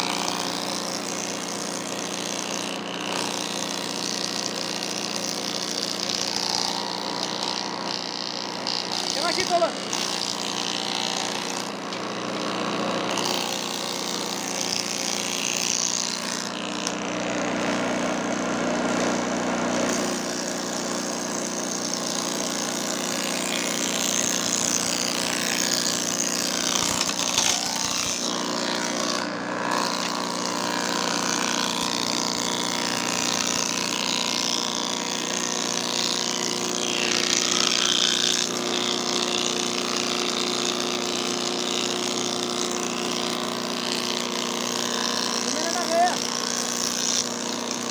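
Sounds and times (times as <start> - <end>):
cutter milling wood: 0.0 - 47.9
moulding machine hum: 0.0 - 47.9.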